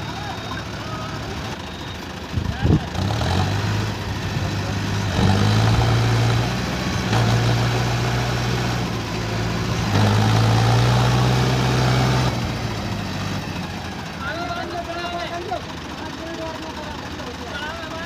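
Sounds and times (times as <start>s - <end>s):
tractor diesel engine surging: 0.0s - 18.0s.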